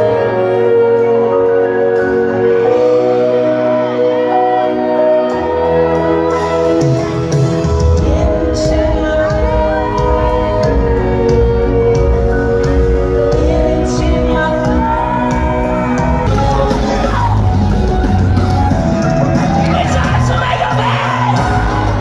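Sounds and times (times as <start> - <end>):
person singing: 0.0 - 18.5, 19.1 - 22.0
live concert music: 0.0 - 22.0.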